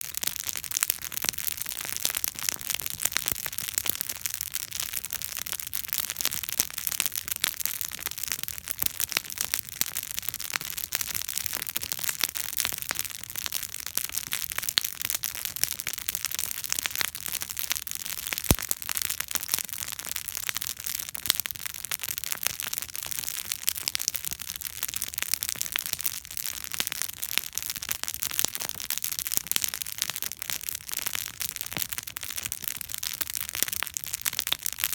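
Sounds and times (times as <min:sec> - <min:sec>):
campfire crackling and popping: 0:00.1 - 0:34.9.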